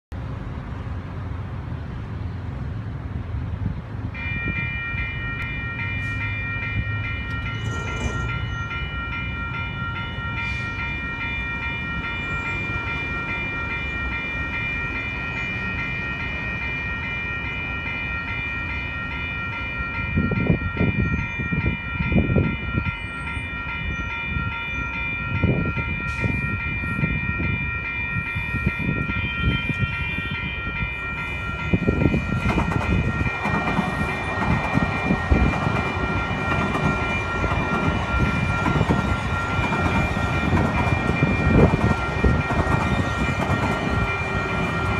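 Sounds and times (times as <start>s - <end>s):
light-rail train rumbling: 0.1s - 44.9s
railway crossing bells ringing: 3.7s - 44.9s.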